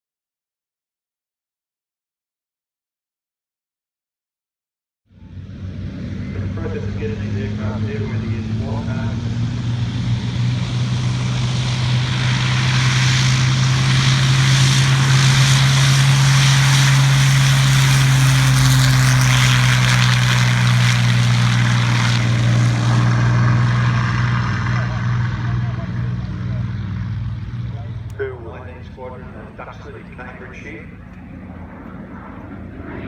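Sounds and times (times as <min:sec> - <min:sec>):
propeller plane flying past: 0:05.1 - 0:33.0.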